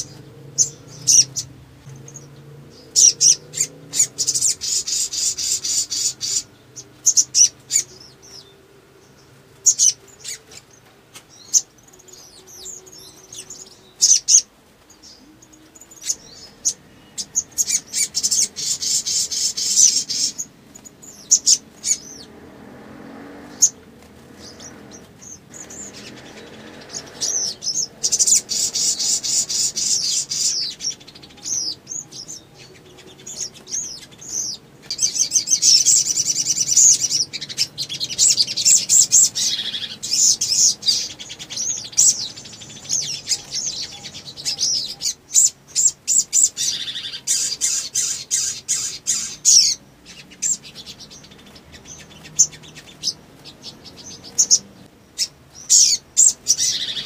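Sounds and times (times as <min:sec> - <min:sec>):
bird twittering and trilling: 0:00.0 - 0:57.0.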